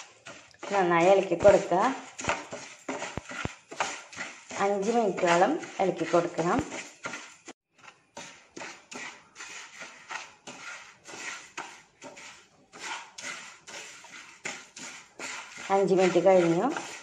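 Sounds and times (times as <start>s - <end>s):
spatula stirring dry lentils: 0.0s - 17.0s.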